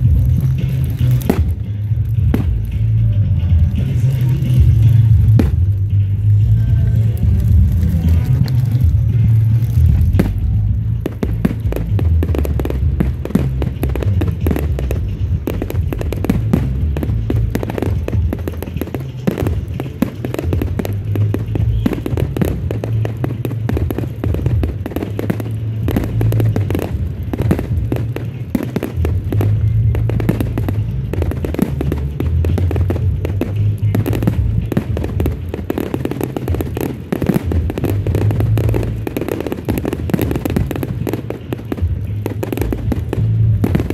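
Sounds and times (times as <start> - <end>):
fireworks banging and crackling: 0.0 - 43.9
music playing: 0.0 - 43.9.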